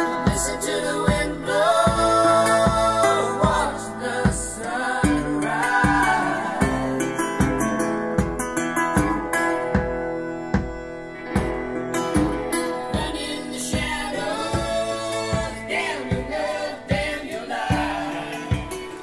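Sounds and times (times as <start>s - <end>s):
steady bass drum beat: 0.0s - 10.8s, 11.4s - 19.0s
song with singing and guitar: 0.0s - 19.0s.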